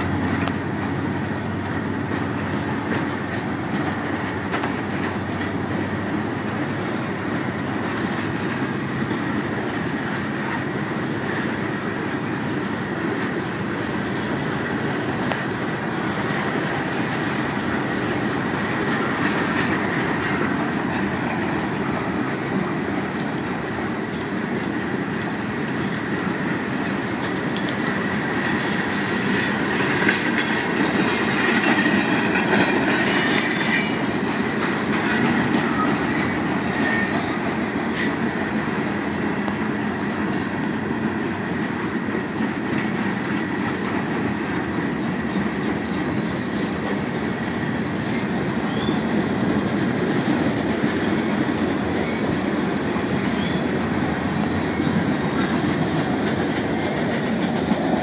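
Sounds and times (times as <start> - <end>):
steel wheels on rail: 0.0 - 58.0.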